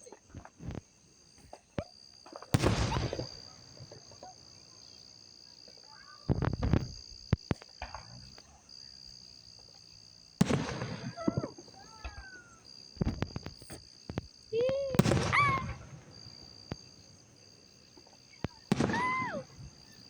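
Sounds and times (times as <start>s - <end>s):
fireworks banging and crackling: 0.0s - 20.0s
insects chirring: 0.0s - 20.0s.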